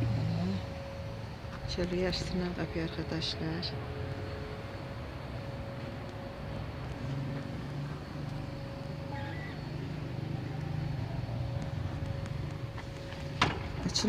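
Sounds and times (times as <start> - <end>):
faint steady hum: 0.0 - 14.0
low traffic rumble: 0.0 - 14.0.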